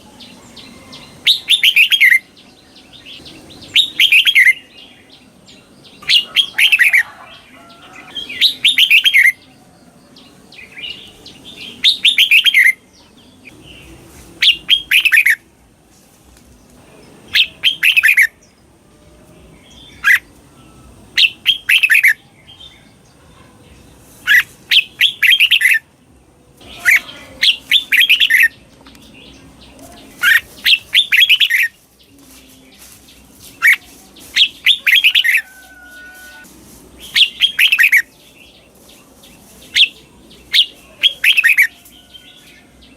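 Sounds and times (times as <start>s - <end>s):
bird singing: 0.0s - 15.5s, 16.6s - 42.9s.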